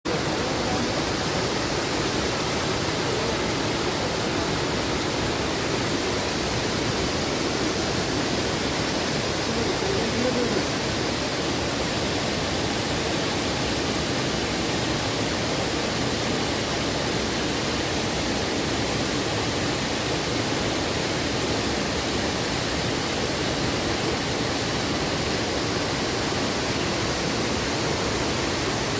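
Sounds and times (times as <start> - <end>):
waterfall roar: 0.1 - 28.9.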